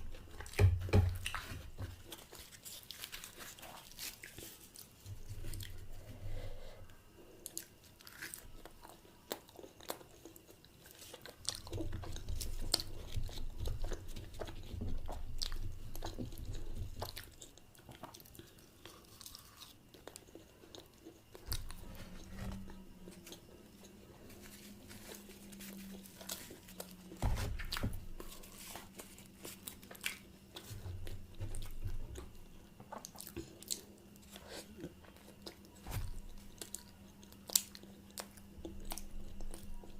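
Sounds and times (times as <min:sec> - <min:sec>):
biting and chewing: 0:00.0 - 0:06.0, 0:07.4 - 0:39.9.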